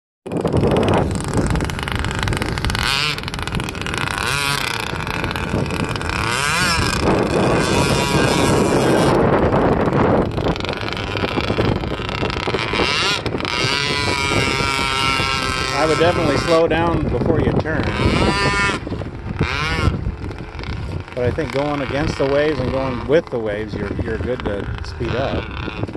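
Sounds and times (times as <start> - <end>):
model boat engine running: 0.3 - 25.9.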